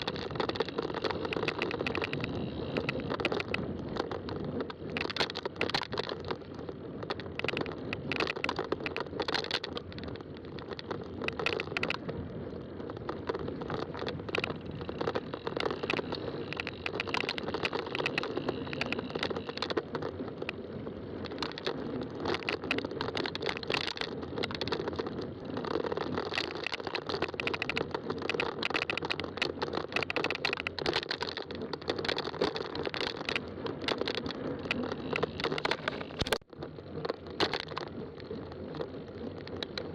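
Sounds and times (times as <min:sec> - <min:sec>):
bike tyre noise: 0:00.0 - 0:39.9
small clicks and rattles: 0:00.0 - 0:39.9.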